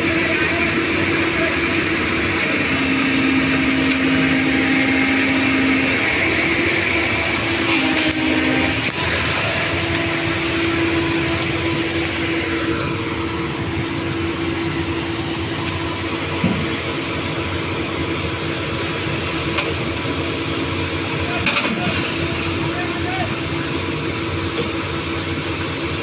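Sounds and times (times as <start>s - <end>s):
excavator engine and hydraulic hum: 0.0s - 26.0s.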